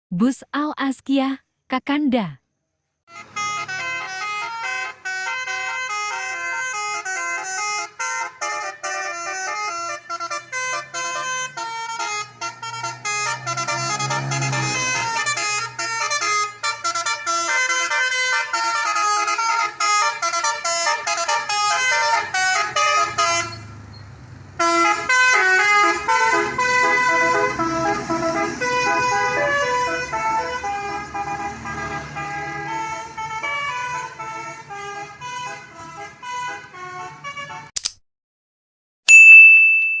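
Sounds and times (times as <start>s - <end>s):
musical horn playing melodic runs: 3.1s - 23.6s, 24.6s - 37.7s.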